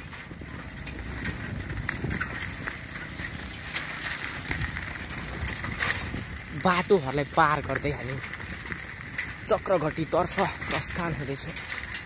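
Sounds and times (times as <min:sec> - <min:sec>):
bicycle knocking and rattling: 0:00.0 - 0:12.0
bicycle tyres crunching on gravel: 0:00.0 - 0:12.0.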